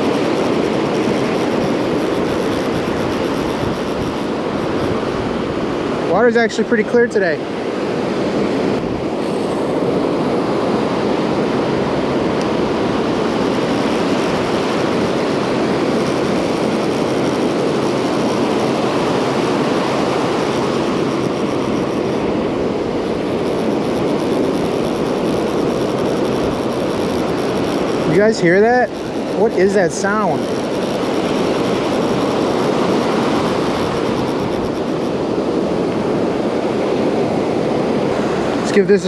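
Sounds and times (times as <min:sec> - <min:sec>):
wind buffeting microphone: 0:00.0 - 0:38.8
ocean surf breaking: 0:00.0 - 0:39.0.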